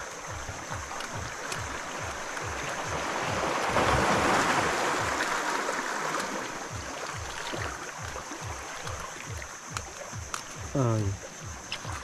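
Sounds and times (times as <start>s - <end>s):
low rhythmic pulsing: 0.0s - 12.0s
water sloshing: 0.0s - 12.0s.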